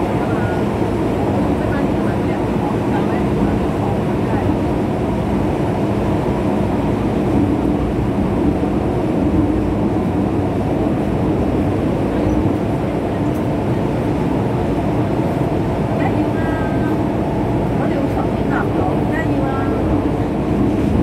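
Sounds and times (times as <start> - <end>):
train running through tunnel: 0.0 - 21.0.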